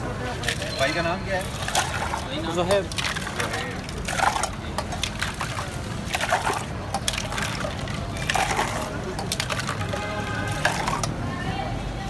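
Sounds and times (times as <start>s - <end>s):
murmur of voices: 0.0s - 12.0s
liquid pouring and sloshing: 0.1s - 11.3s
steel mug and bowl clinking: 0.4s - 11.2s.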